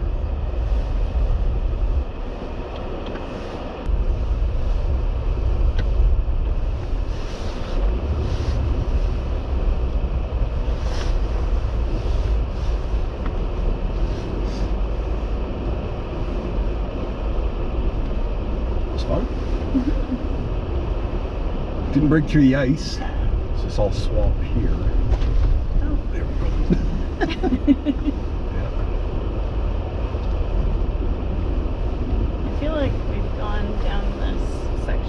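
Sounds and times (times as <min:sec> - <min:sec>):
engine and tyres rumbling: 0:00.0 - 0:35.0.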